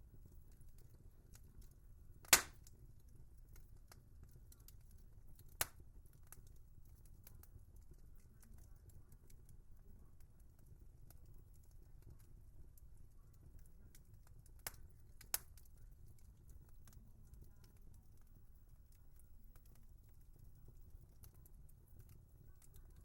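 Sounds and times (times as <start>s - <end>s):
wood fire crackling: 0.0s - 23.0s
burning wood popping: 0.2s - 23.0s.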